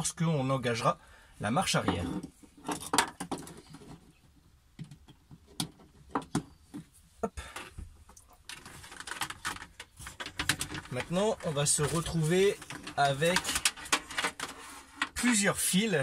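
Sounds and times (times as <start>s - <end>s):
cables and connectors clicking and rustling: 1.9s - 15.5s.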